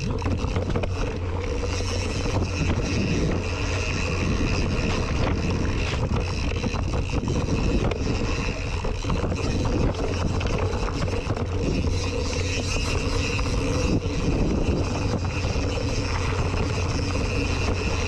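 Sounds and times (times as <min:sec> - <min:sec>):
bike rattling and clattering: 0:00.0 - 0:18.0
wind buffeting microphone: 0:00.0 - 0:18.0.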